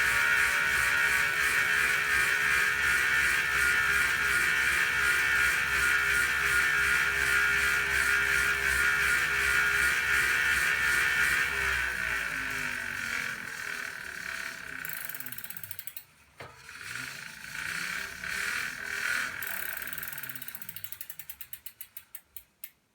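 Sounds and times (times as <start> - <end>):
bicycle freehub ticking: 0.0 - 22.9.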